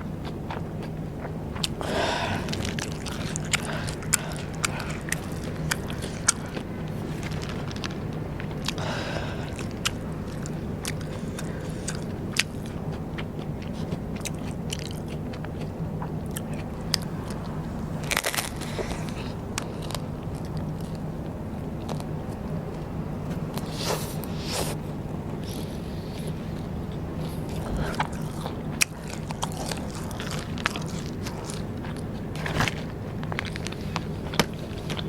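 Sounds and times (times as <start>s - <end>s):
crunching rice paper snacks: 0.0s - 21.1s, 25.4s - 35.0s.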